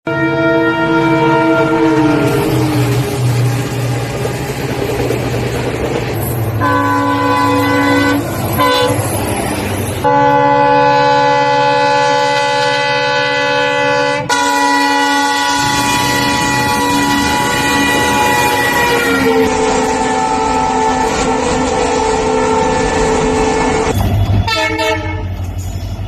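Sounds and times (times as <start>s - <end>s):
locomotive air horns blasting: 0.1s - 4.8s, 6.6s - 9.1s, 10.0s - 25.4s.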